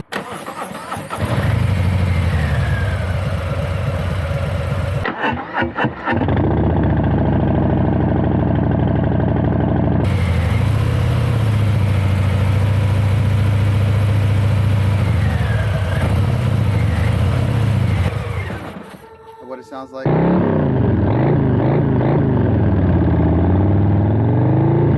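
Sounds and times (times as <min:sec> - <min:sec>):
motorcycle exhaust running: 0:01.2 - 0:05.0, 0:06.2 - 0:18.9, 0:20.2 - 0:24.3.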